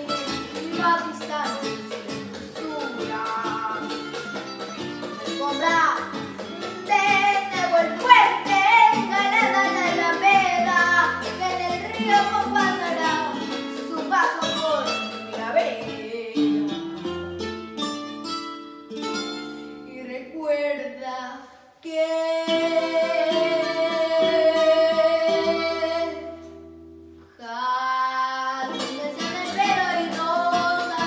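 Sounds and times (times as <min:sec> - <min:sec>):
girl singing: 0:00.0 - 0:04.4, 0:05.1 - 0:17.4, 0:19.8 - 0:26.7, 0:27.3 - 0:31.0
plucked guitar: 0:00.0 - 0:20.5, 0:22.1 - 0:27.3, 0:28.5 - 0:31.0.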